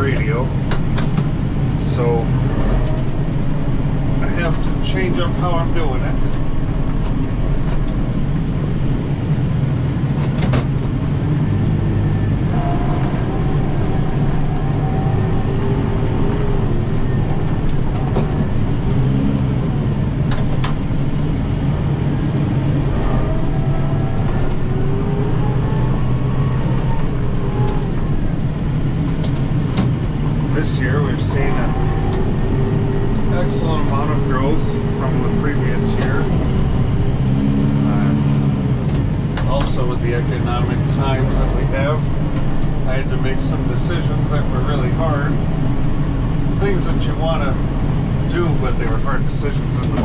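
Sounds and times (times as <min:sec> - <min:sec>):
tractor diesel engine running: 0:00.0 - 0:50.0
whine varying in pitch: 0:00.0 - 0:50.0.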